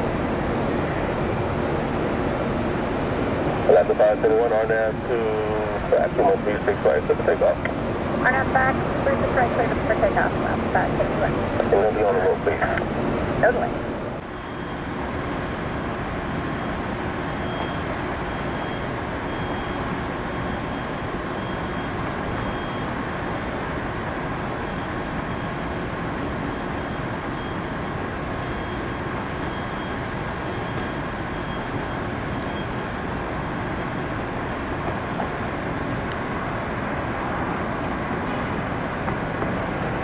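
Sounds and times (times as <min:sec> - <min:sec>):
engine drone: 0:00.0 - 0:40.0
faint thin whine: 0:00.0 - 0:40.0.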